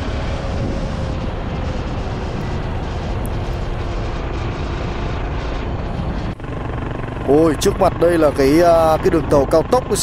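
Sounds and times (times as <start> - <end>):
wind rushing over microphone: 0.0 - 9.1
motorcycle engine running: 0.0 - 10.0.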